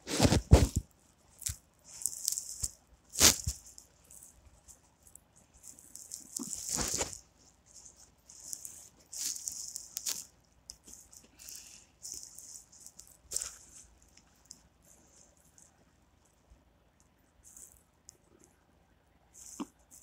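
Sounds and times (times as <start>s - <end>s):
faint rustling and hissing: 0.0s - 20.0s.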